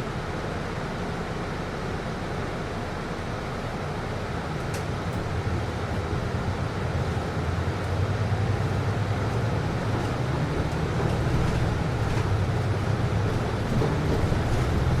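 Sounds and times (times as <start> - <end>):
bus interior hum: 0.0 - 15.0
air conditioning running: 1.3 - 15.0.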